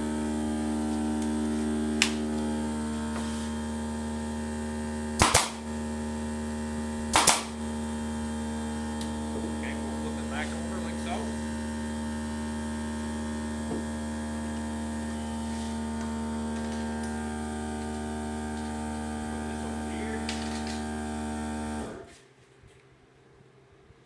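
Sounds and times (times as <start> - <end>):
air compressor motor humming: 0.0 - 22.2.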